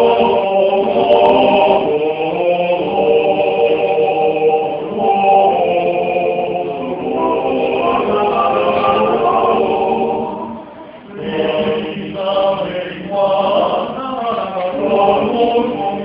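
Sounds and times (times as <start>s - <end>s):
male vocal ensemble singing in harmony: 0.0s - 16.0s.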